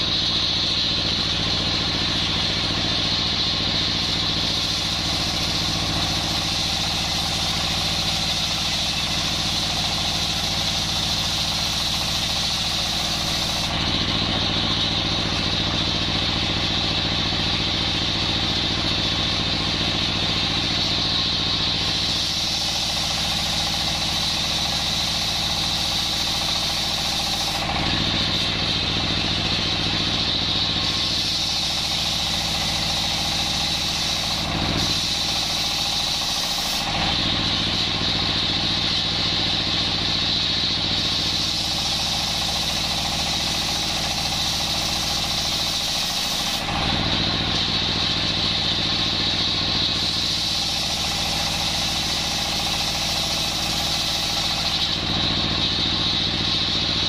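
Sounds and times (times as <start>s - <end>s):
saw blade high whine: 0.0s - 57.0s
sawmill drive humming: 0.0s - 57.0s.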